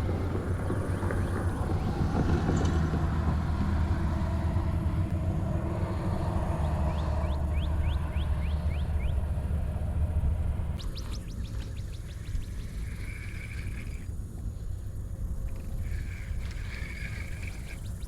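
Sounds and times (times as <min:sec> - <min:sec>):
motor vehicle rumble: 0:00.0 - 0:18.0.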